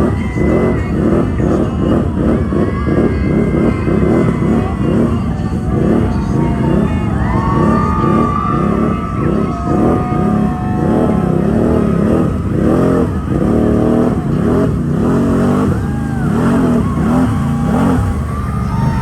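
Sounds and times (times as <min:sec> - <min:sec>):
atv engines revving: 0:00.0 - 0:19.0.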